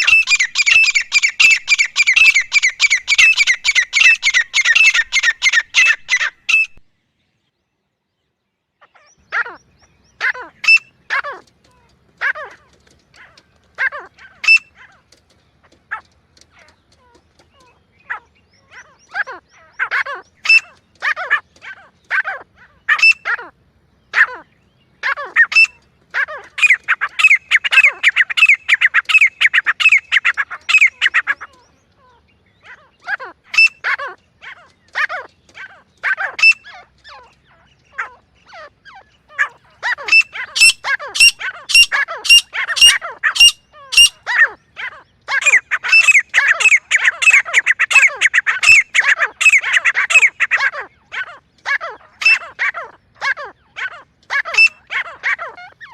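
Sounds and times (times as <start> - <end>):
francolin calling: 0.0 - 6.8, 8.8 - 15.0, 15.7 - 55.9.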